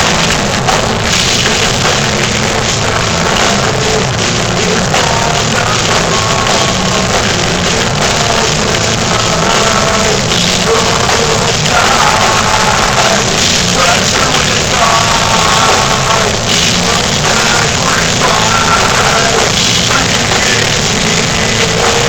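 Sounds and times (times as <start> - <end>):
heavy metal band playing live: 0.0 - 22.0.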